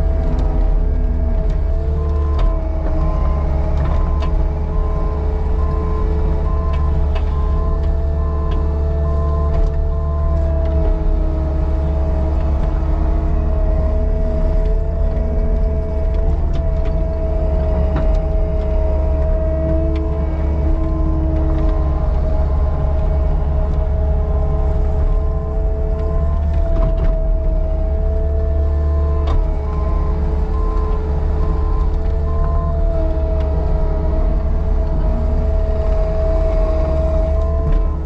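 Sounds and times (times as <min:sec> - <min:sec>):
track loader diesel engine droning: 0:00.0 - 0:38.0.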